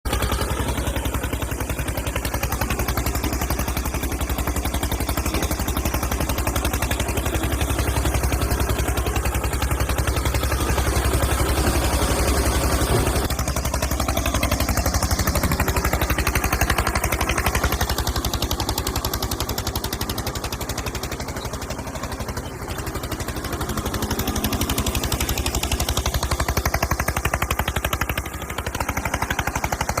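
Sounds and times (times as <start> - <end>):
tractor engine chugging: 0.1 - 30.0.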